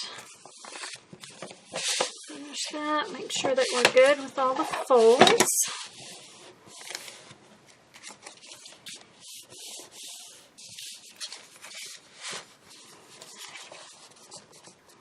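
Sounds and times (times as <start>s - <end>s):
paper rustling and rubbing: 0.0s - 15.0s.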